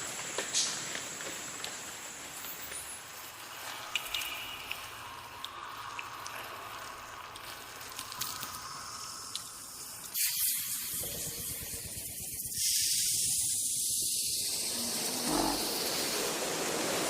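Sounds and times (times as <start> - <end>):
steady high hissing: 3.0 - 17.0.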